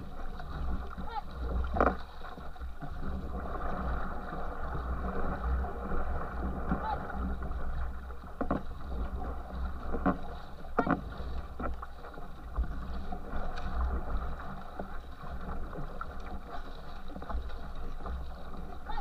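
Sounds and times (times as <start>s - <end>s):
paddle stroke splashes: 0.0s - 19.0s
water rushing along hull: 0.0s - 19.0s.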